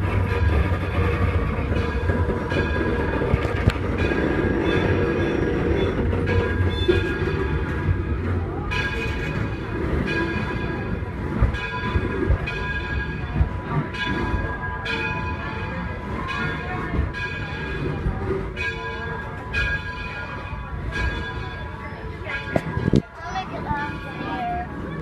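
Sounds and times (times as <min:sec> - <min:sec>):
locomotive bell ringing: 0:00.0 - 0:25.0
moving train rumble: 0:00.0 - 0:25.0.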